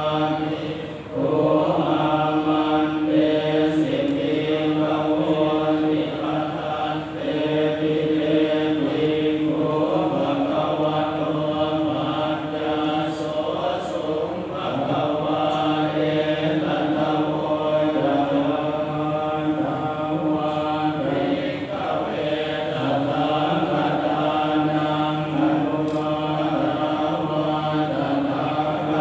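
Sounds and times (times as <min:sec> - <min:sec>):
buddhist chanting: 0:00.0 - 0:29.0.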